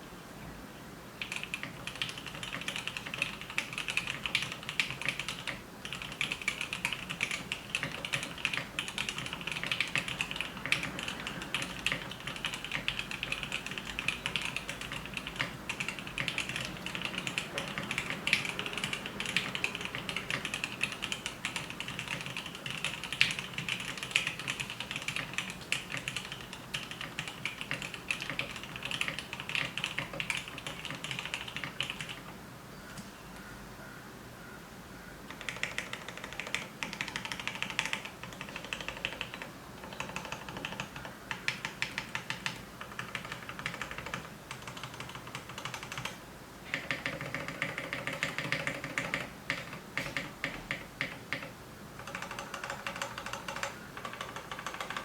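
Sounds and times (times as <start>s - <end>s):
fast mechanical keyboard typing: 1.2s - 32.3s, 35.3s - 55.0s.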